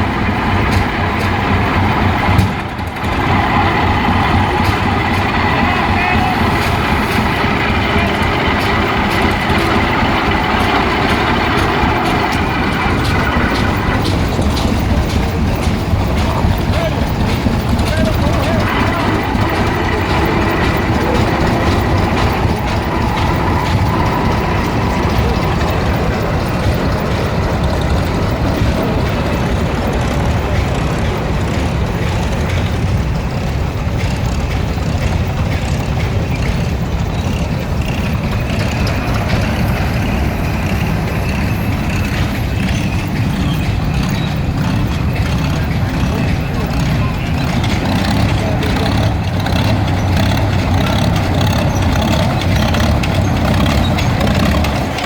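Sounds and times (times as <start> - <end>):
tractor engines rumbling: 0.0 - 55.0.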